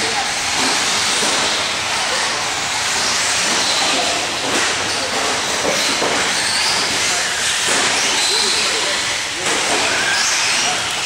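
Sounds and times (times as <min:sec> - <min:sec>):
steady loud hiss: 0:00.0 - 0:11.0.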